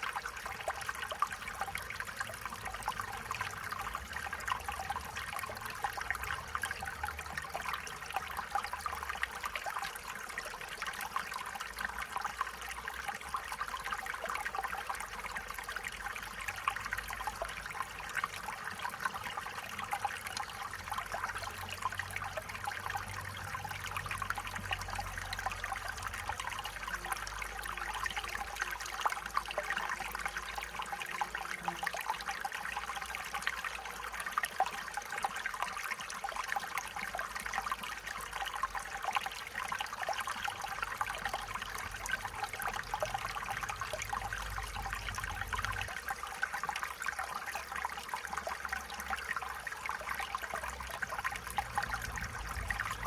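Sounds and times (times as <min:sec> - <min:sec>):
stream babbling and trickling: 0:00.0 - 0:53.0.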